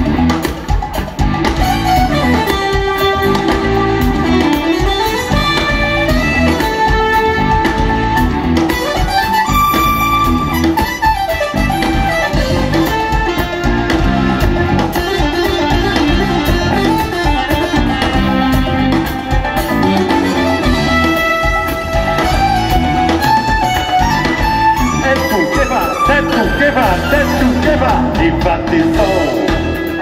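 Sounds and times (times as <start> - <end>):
live band music: 0.0 - 30.0
melodic lead line: 0.0 - 30.0.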